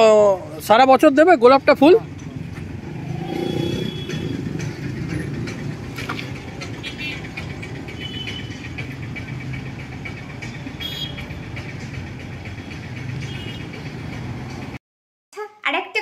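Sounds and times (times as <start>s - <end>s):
road traffic rumble: 0.0s - 14.8s.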